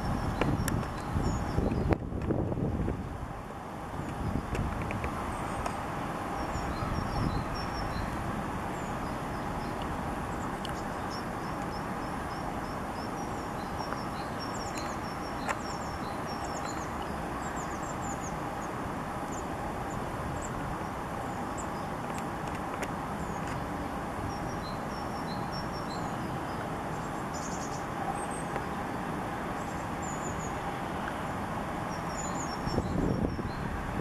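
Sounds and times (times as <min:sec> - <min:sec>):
small birds chirping: 0:00.0 - 0:02.0, 0:04.0 - 0:33.8.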